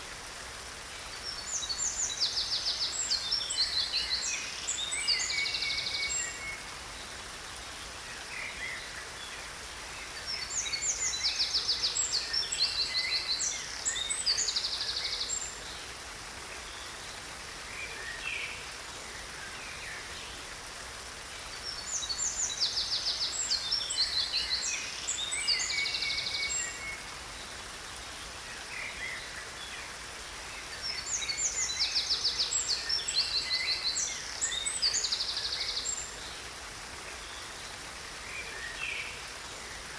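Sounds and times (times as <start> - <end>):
songbirds chirping and trilling: 0.0 - 39.9
waterfall: 0.0 - 39.9.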